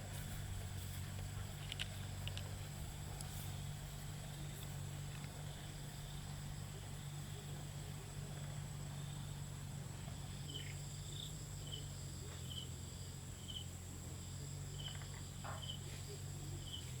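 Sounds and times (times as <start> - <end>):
crickets and insects trilling: 0.0 - 17.0
steady low hum: 0.0 - 17.0.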